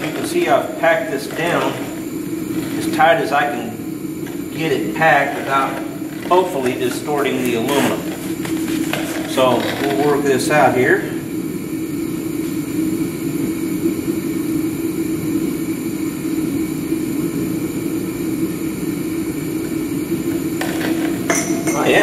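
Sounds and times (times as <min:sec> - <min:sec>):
machine droning: 0:00.0 - 0:22.0.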